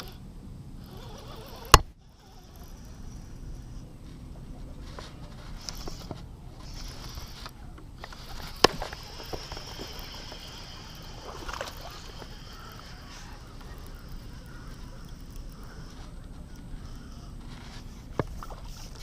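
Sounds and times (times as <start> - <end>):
steady insect buzz: 0.0 - 3.8, 5.6 - 19.0.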